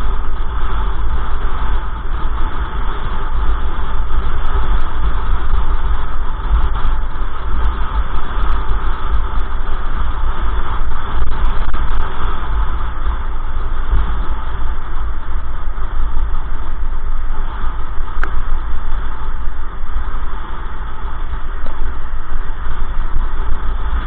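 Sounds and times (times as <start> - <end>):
wind and road noise rumble: 0.0 - 24.0.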